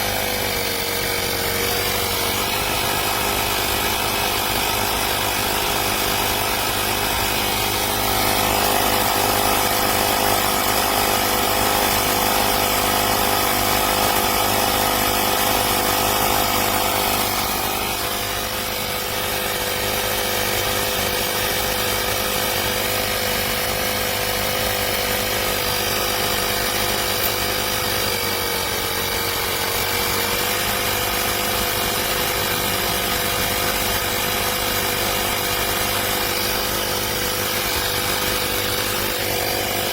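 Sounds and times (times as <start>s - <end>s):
electric tyre compressor running: 0.0s - 39.9s.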